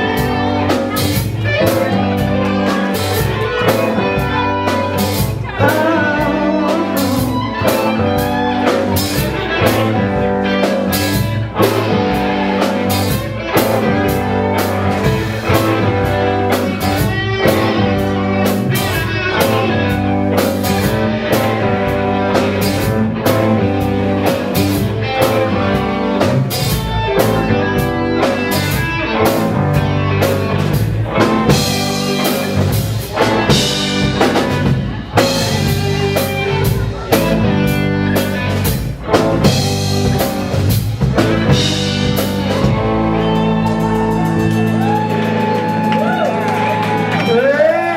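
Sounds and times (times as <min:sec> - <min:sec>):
bass guitar: 0:00.0 - 0:47.9
drum kit beat: 0:00.0 - 0:47.9
electric guitar: 0:00.0 - 0:47.9.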